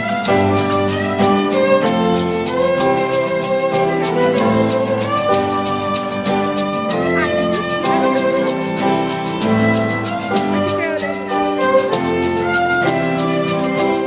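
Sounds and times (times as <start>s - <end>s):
light ticking beat: 0.2s - 13.8s.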